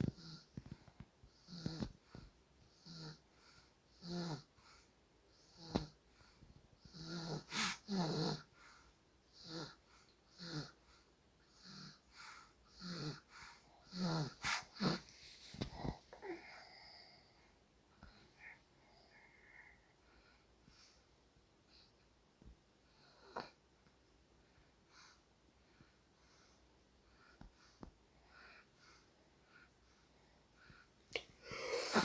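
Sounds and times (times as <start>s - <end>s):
soft wheezy snoring: 0.0s - 21.0s, 24.9s - 32.0s.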